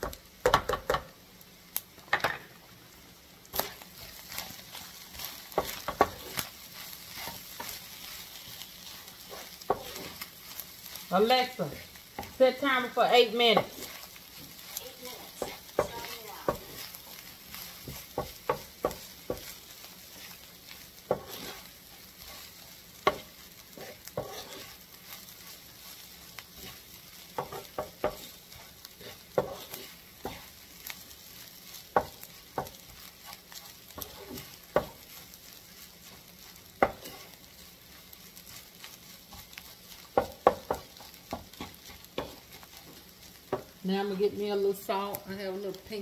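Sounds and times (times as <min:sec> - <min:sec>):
food sizzling in a skillet: 0:00.0 - 0:46.0
utensil scraping a pan: 0:03.5 - 0:43.8.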